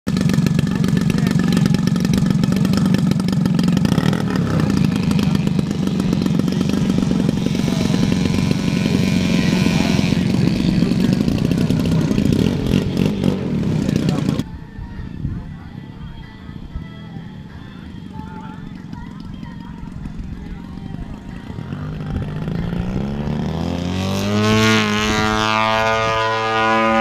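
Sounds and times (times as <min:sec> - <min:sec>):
model plane engine running: 0:00.1 - 0:14.5, 0:18.0 - 0:27.0.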